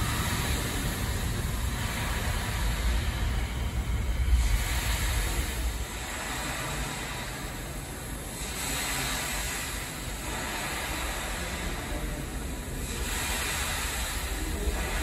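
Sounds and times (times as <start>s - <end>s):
subway train running: 0.0s - 15.0s.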